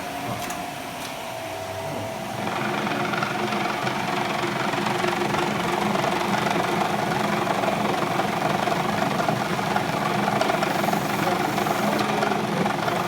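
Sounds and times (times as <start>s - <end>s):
sorting machine motor hum: 0.0s - 13.0s
machine rattling: 2.4s - 13.0s.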